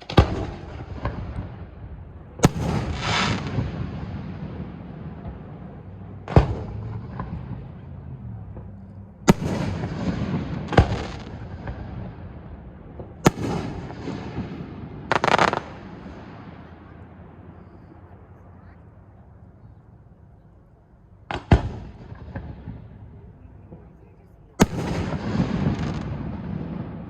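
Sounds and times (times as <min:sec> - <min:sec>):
fireworks bursting: 0:00.0 - 0:18.3, 0:21.3 - 0:27.0.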